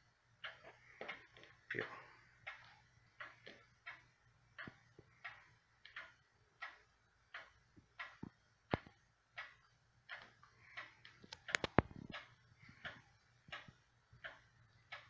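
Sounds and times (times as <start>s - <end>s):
wall clock ticking: 0.0s - 15.0s.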